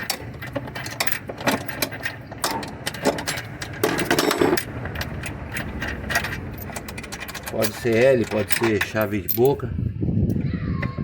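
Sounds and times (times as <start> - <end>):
wrench clicking and knocking on bolts: 0.0 - 9.6.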